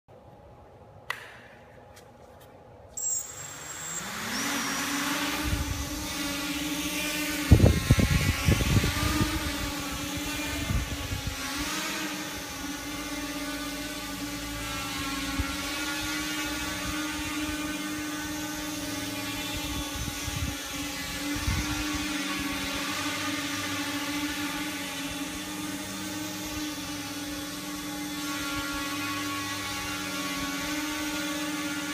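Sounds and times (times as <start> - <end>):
quadcopter motors buzzing: 3.0 - 31.9.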